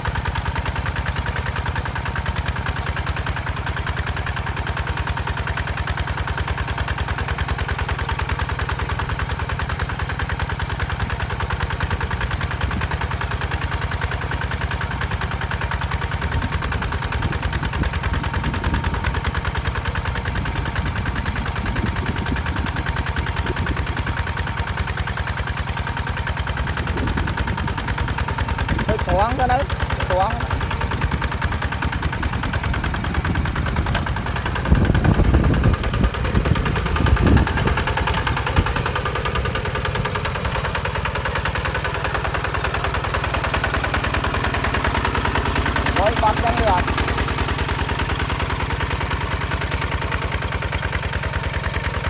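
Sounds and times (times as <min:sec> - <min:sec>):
diesel engine chugging: 0:00.0 - 0:52.0.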